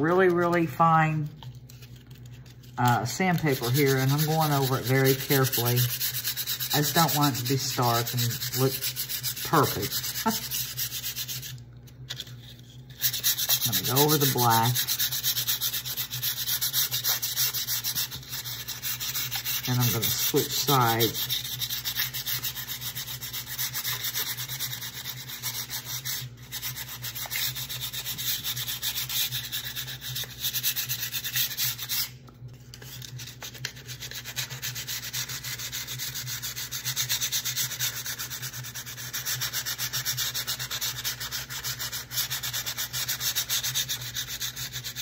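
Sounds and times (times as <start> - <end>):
sandpaper rubbing on wood: 2.9 - 11.6, 12.9 - 32.1, 32.8 - 45.0.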